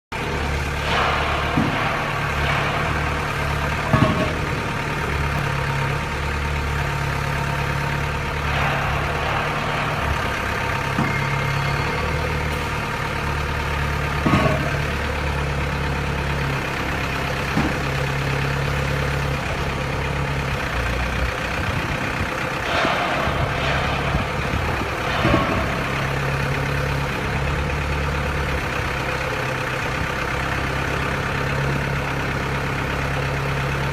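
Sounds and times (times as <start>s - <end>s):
engine droning: 0.1s - 33.9s
sharp metal clanks: 0.2s - 33.7s.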